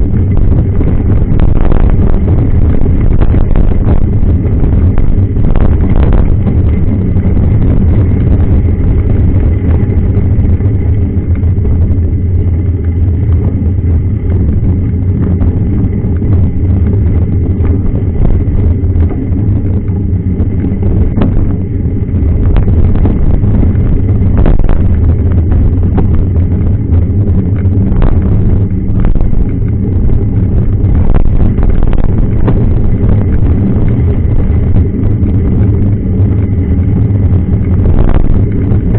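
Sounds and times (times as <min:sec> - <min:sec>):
bike rattling over bumps: 0:00.0 - 0:38.9
wind on microphone: 0:00.0 - 0:38.9.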